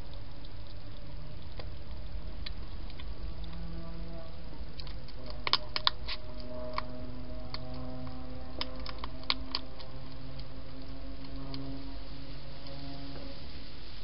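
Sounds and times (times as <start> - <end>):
hedgehog crunching food: 0.0 - 12.8.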